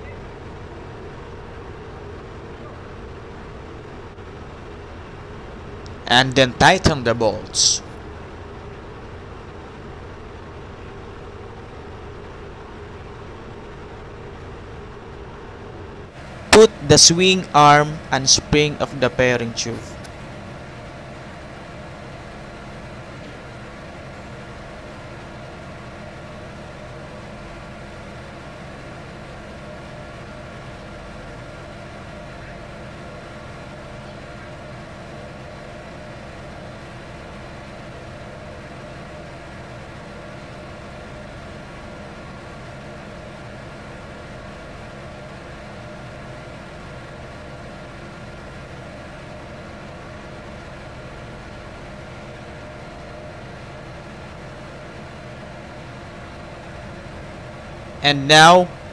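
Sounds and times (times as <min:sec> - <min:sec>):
engine-room machinery drone: 0:00.0 - 0:58.9.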